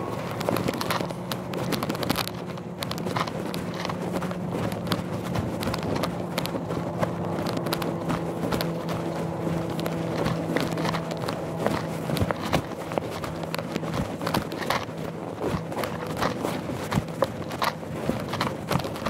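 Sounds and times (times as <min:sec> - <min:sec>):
clicks and knocks on loose rocks: 0:00.0 - 0:19.0
steady low hum: 0:00.0 - 0:19.0.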